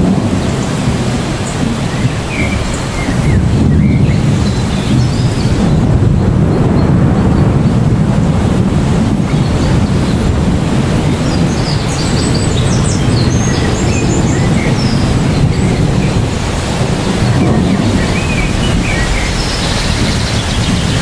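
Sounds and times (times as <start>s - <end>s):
deep rumble: 0.0s - 21.0s
heavy rain on leaves: 0.0s - 21.0s.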